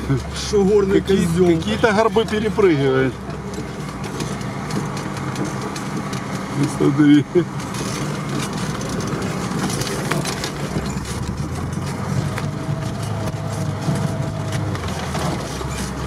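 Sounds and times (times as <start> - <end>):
vehicle engine running: 0.0 - 16.0
vehicle body knocks and rattles: 1.8 - 16.0.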